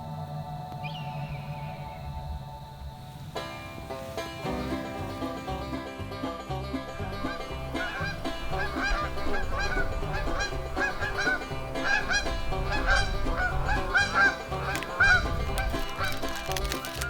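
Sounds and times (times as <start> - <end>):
geese honking: 0.0 - 17.0
bluegrass music with banjo: 3.3 - 17.0.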